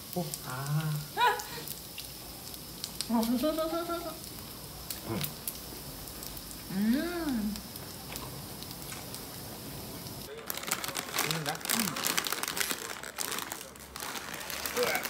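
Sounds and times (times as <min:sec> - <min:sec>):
fish sizzling on grill: 0:00.0 - 0:15.0.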